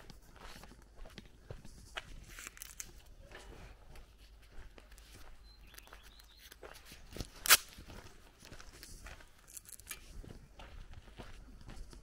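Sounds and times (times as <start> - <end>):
footsteps on dirt path: 0.0 - 12.0.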